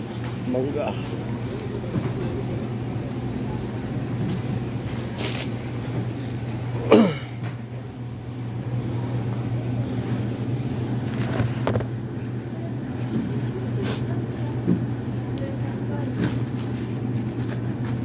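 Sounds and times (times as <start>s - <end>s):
supermarket background hum: 0.0s - 18.0s.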